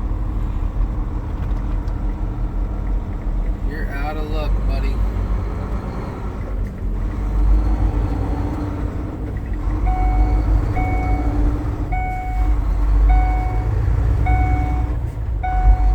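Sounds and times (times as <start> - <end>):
vehicle and road rumble: 0.0 - 15.9.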